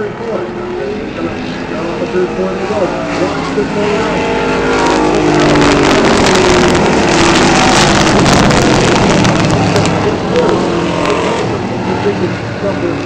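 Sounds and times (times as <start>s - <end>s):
race truck engines passing: 0.0s - 13.0s.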